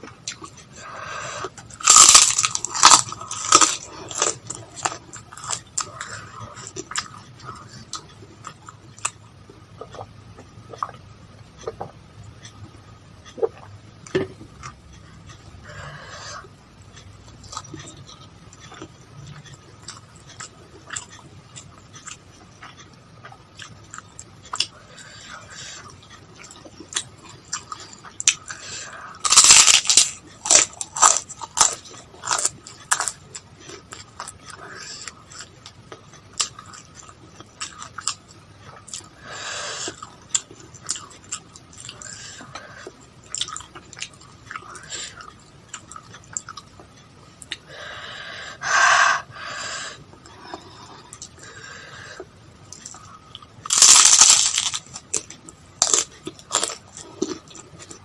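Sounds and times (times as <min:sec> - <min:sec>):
chewing with crunching bites: 0:00.0 - 0:47.7, 0:50.1 - 0:58.0.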